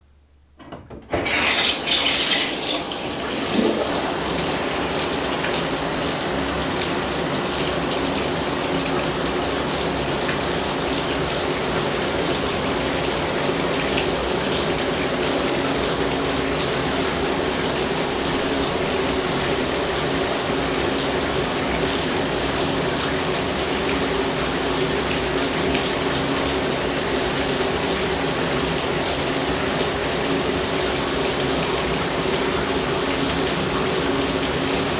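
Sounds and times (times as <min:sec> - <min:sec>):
shower water running: 0:00.6 - 0:34.9.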